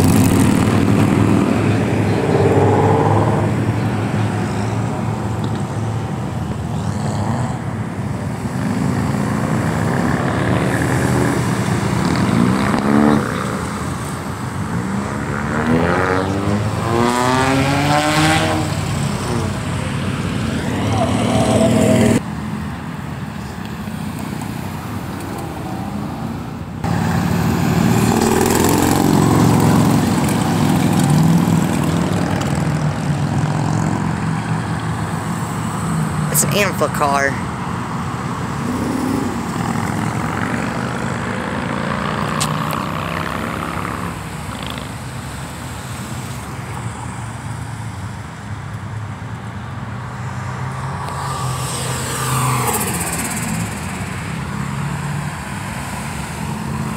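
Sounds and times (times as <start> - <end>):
car engines revving: 0.0 - 56.9
traffic noise: 0.0 - 56.9.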